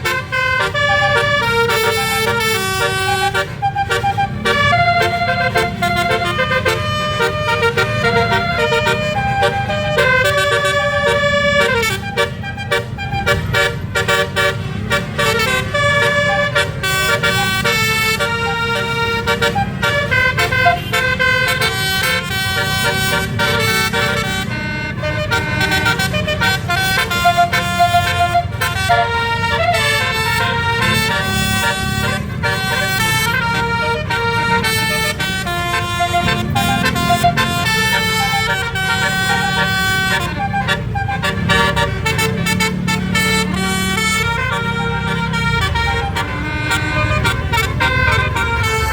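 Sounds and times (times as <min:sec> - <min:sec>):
musical bus air horn melody: 0:00.0 - 0:48.9.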